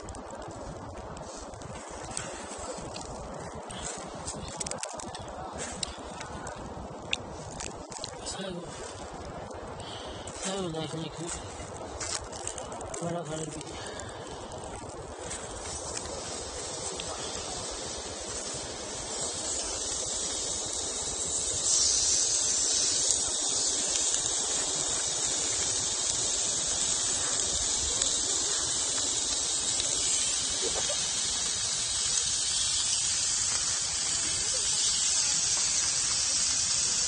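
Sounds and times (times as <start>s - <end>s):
meat sizzling on a grill: 0.0s - 37.0s.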